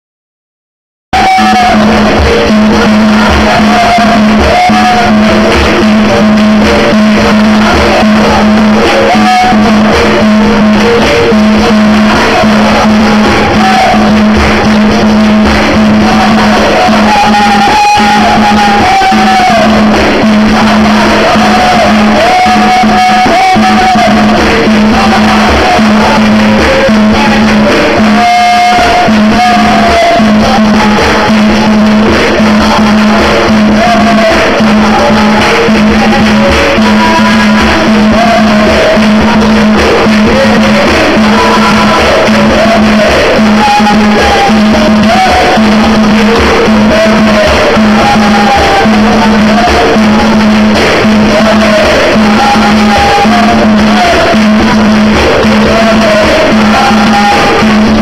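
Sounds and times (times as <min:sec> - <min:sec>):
hand-clapping: 0:01.1 - 0:58.0
percussion strikes: 0:01.1 - 0:58.0
instruments playing: 0:01.2 - 0:58.0
people singing: 0:01.2 - 0:58.0.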